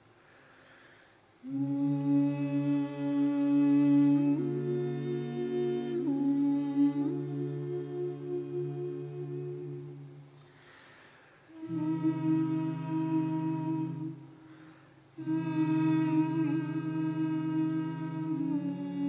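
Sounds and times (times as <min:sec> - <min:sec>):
vocal ensemble humming chords: 0:01.4 - 0:19.0.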